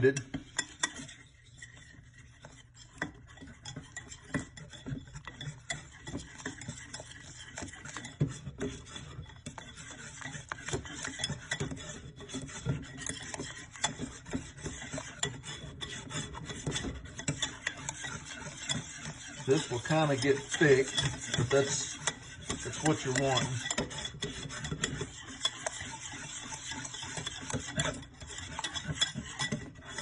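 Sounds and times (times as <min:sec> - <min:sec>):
whisk clicking against bowl: 0:00.0 - 0:30.0
whisk stirring batter in bowl: 0:00.0 - 0:30.0.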